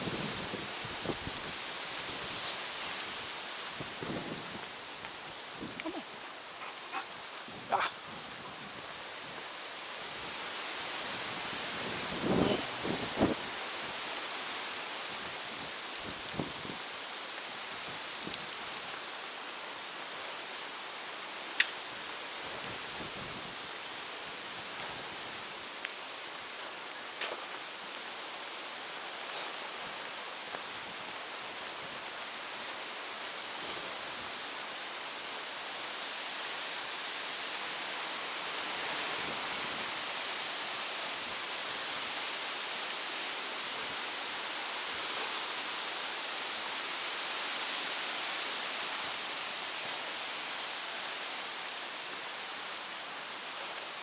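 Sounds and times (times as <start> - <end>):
rain: 0.0 - 54.0
wind: 0.0 - 54.0.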